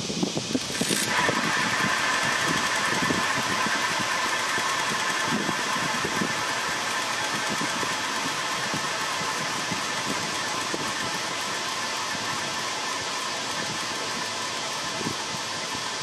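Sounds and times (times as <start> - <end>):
bicycle freehub ratcheting buzz: 0.4 - 16.0.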